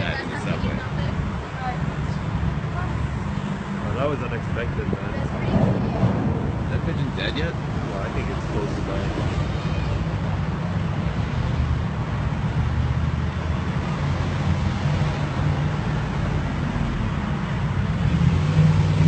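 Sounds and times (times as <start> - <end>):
low vehicle hum: 0.0 - 19.0
road traffic rush: 0.0 - 19.0.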